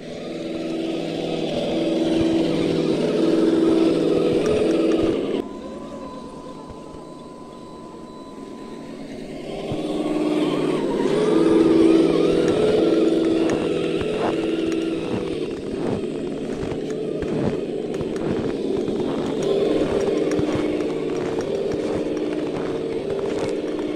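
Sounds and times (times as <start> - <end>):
electric motors whining: 0.0 - 23.9
scattered clicks: 0.1 - 5.5, 9.6 - 23.9.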